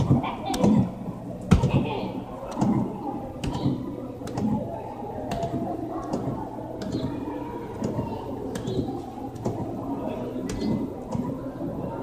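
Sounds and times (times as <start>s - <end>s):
background murmur: 0.0s - 12.0s.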